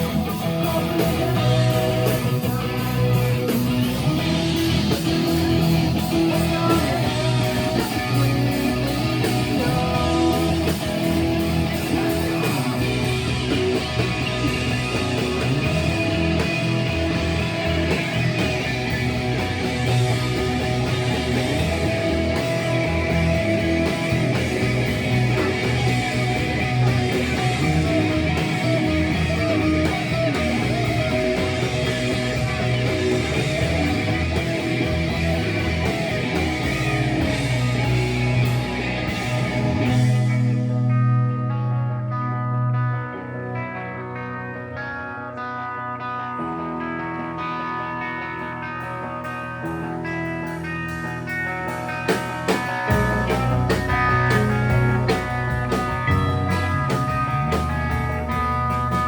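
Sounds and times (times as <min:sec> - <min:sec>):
electric guitar: 0:00.0 - 0:59.0
rock band playing: 0:00.0 - 0:59.0.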